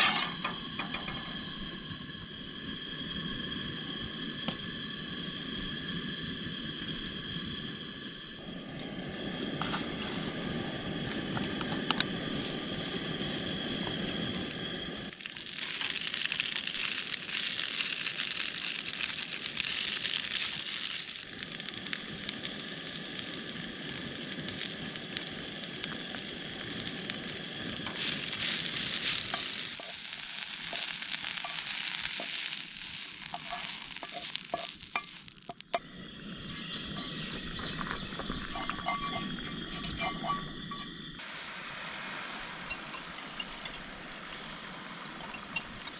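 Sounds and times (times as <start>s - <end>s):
food sizzling in a pan: 0.0s - 6.9s, 8.9s - 45.9s.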